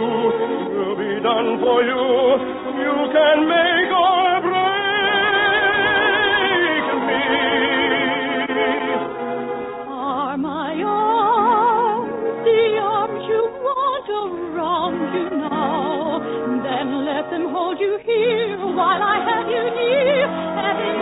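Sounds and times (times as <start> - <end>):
operatic voice singing with vibrato: 0.0 - 9.1, 9.9 - 21.0
orchestra playing: 0.0 - 13.0, 14.6 - 21.0.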